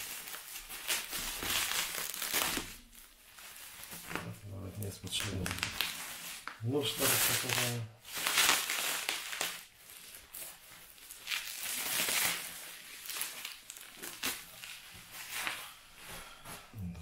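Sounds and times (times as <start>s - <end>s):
bubble wrap crinkling: 0.0s - 16.6s.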